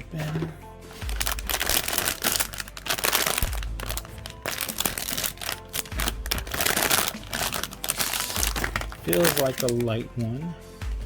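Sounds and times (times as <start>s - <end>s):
plastic packaging crinkling: 0.2s - 10.4s.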